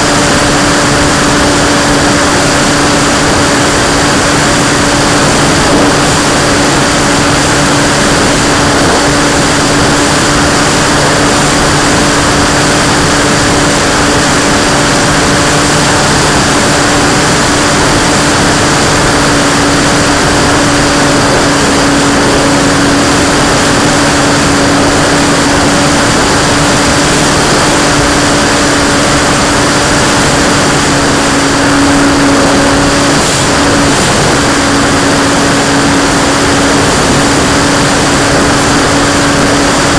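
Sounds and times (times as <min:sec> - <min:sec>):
model plane motor and propeller: 0:00.0 - 0:39.9
steady tone: 0:00.0 - 0:39.9
wind rush: 0:00.0 - 0:39.9.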